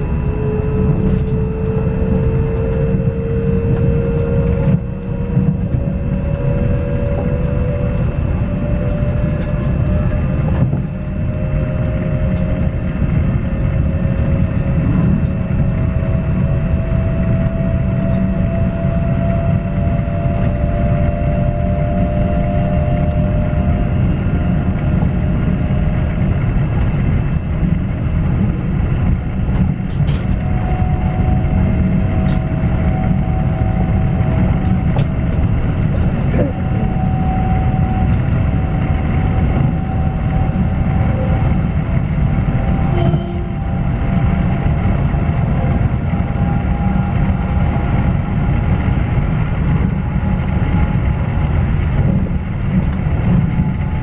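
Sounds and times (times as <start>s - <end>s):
electric inverter whine: 0.0s - 54.0s
train wheels rumbling on rail: 0.0s - 54.0s.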